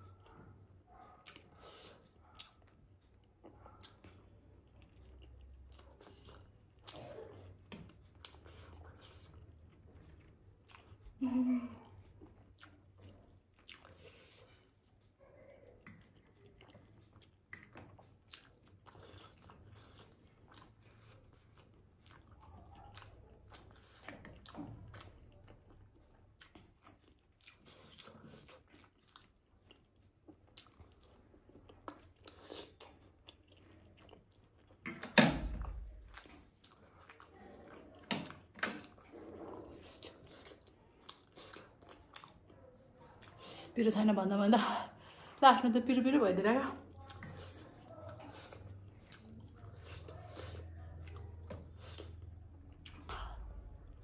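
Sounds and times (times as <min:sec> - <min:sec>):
person chewing food: 0:00.0 - 0:43.8, 0:46.8 - 0:54.0.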